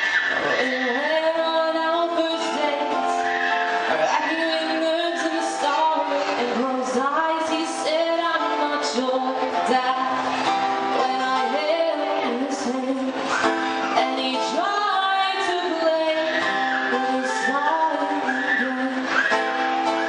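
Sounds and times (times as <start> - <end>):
acoustic guitar: 0.0 - 20.0
woman singing into a microphone: 0.2 - 20.0.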